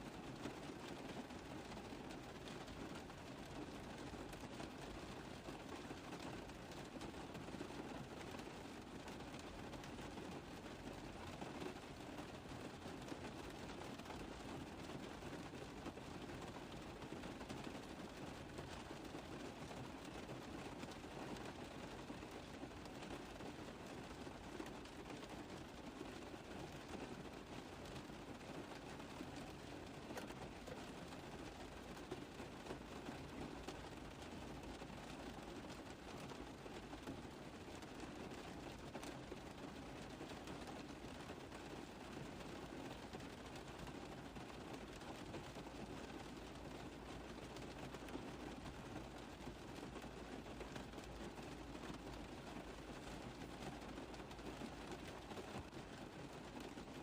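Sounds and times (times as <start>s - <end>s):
rain on a car roof: 0.0s - 57.0s.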